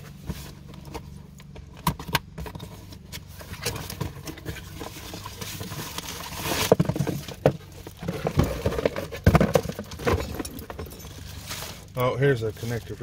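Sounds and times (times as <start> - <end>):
plastic and cardboard rustling: 0.0 - 13.0.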